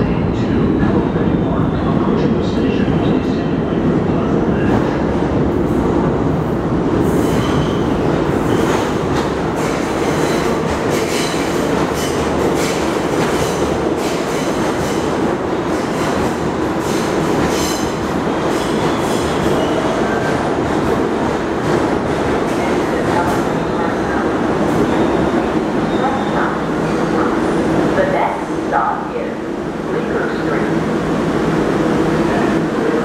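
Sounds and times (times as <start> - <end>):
subway train pulling in: 0.0 - 33.0.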